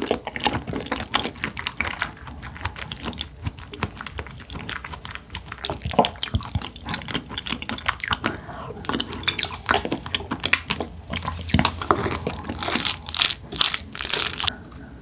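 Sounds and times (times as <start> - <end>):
chewing mouth clicks and smacks: 0.0 - 14.5.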